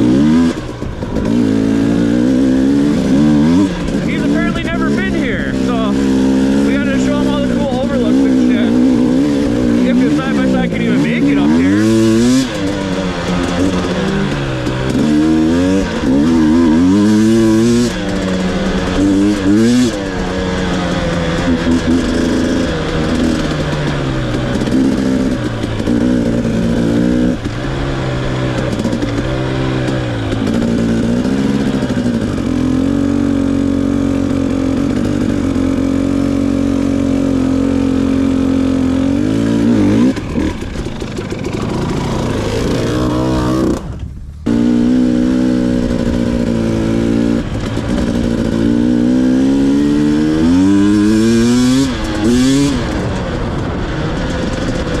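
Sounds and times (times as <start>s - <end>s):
two-stroke dirt bike engine revving: 0.0s - 55.0s.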